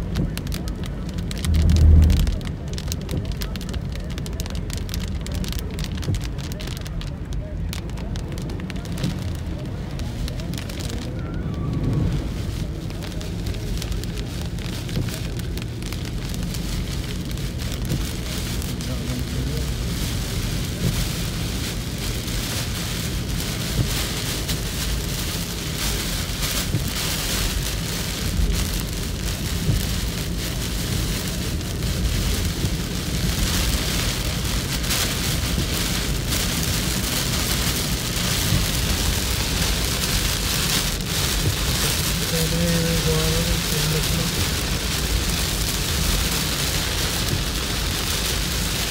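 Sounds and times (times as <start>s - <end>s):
heavy rain on car roof: 0.0s - 48.9s
low road rumble: 0.0s - 48.9s.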